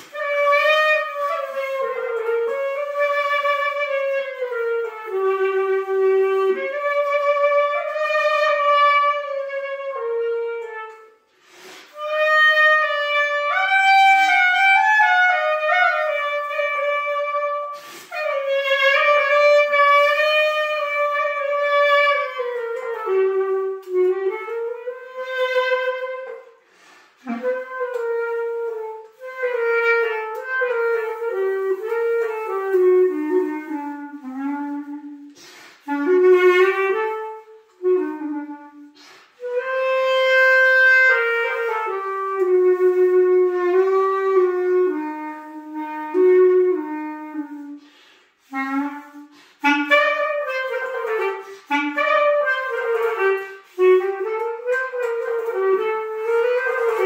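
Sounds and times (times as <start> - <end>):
solo clarinet melody: 0.0 - 57.0.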